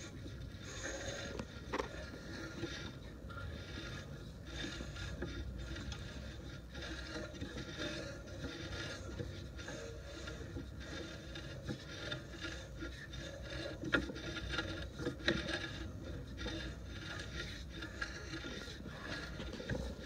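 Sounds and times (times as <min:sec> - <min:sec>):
push cable scraping in sewer pipe: 0:00.0 - 0:20.0.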